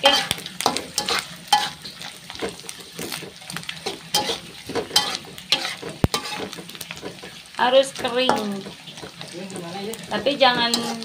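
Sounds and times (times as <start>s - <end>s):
fish sizzling in hot oil: 0.0s - 11.0s
spatula scraping a wok: 0.0s - 11.0s.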